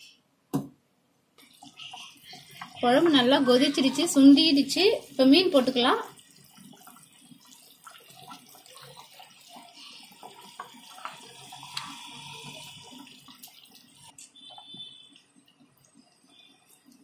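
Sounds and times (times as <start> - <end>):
curry bubbling at a boil: 1.4 - 17.0.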